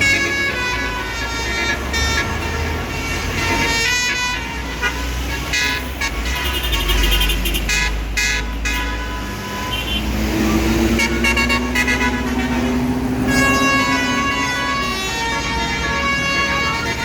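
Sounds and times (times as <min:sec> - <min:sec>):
bus engine rumble: 0:00.0 - 0:17.0
musical bus horn playing tune: 0:00.0 - 0:17.0.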